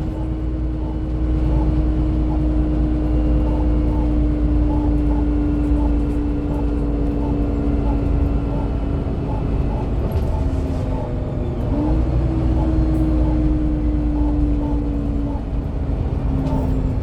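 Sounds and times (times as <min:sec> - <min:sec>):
bus engine whining drone: 0:00.0 - 0:17.0.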